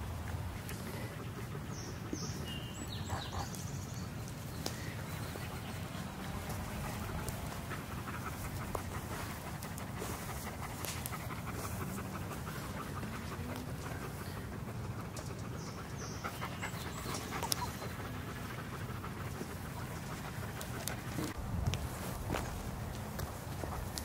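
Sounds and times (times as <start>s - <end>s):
dog panting: 0.2s - 21.4s, 22.3s - 24.0s.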